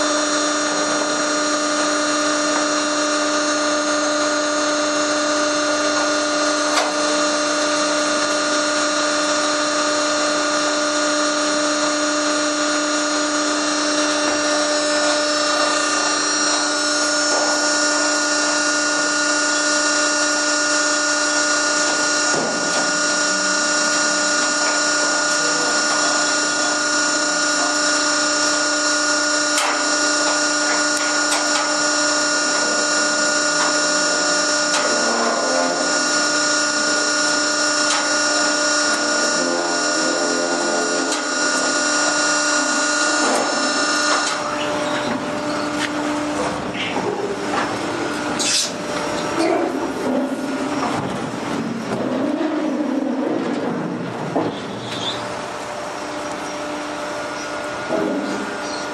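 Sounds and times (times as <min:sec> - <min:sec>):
hydraulic power unit whining: 0:00.0 - 0:58.9.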